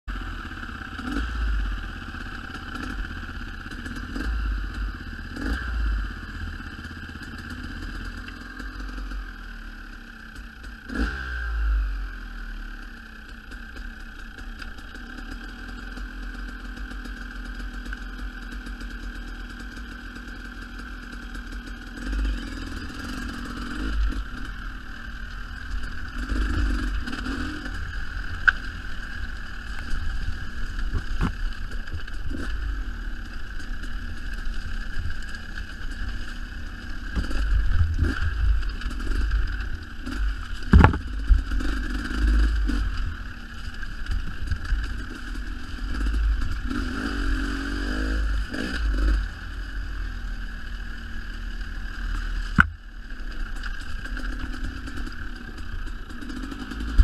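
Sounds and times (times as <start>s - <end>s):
dirt bike engines revving: 0.1s - 11.8s, 13.3s - 57.0s.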